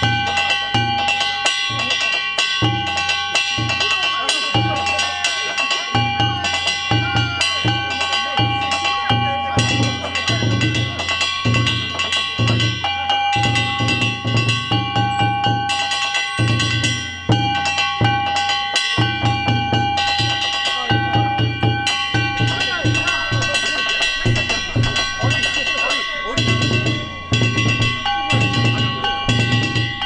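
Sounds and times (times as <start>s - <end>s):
drum beaten in quick rhythm: 0.0s - 30.0s
hand-struck gongs clanging: 0.0s - 30.0s.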